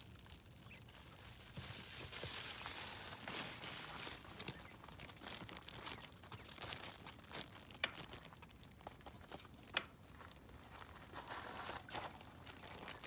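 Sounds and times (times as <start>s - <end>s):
bird rustling in dry leaves: 0.0s - 13.0s.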